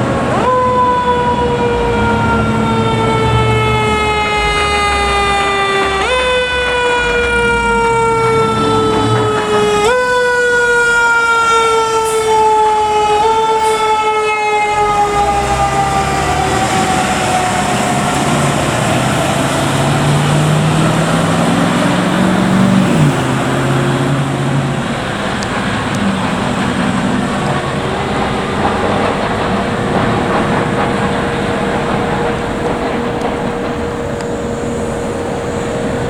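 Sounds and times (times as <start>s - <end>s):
fire truck siren wailing: 0.0s - 36.0s
road noise: 0.0s - 36.0s
truck engine accelerating: 0.0s - 36.0s.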